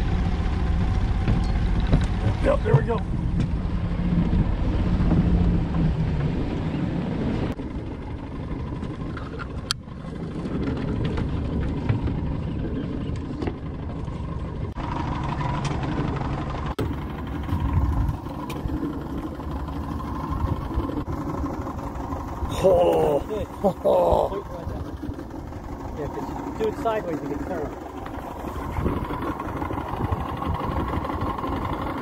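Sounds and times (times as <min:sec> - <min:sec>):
outboard motor humming: 0:00.0 - 0:32.0
water noise: 0:00.0 - 0:32.0
wind: 0:00.0 - 0:32.0.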